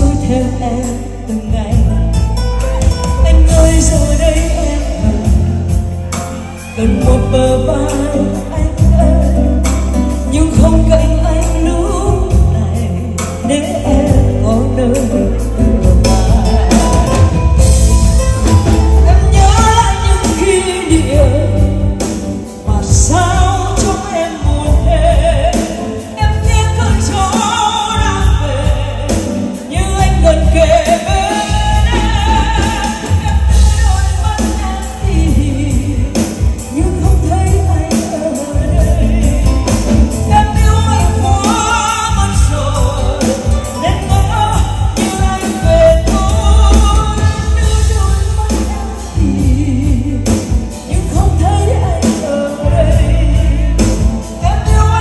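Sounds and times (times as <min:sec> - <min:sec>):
pop ballad singing: 0:00.0 - 0:55.0.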